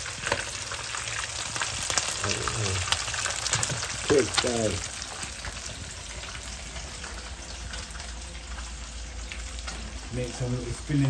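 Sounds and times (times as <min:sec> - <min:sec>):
faint crackles: 0:00.0 - 0:11.0
food sizzling in hot oil: 0:00.0 - 0:11.0.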